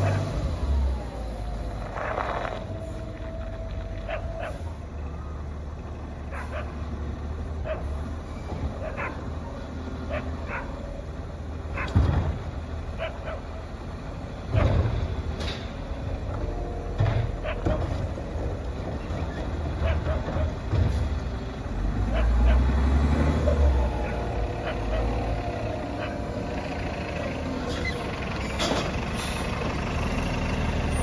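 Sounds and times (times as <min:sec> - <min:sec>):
garbage truck engine rumbling: 0:00.0 - 0:31.0.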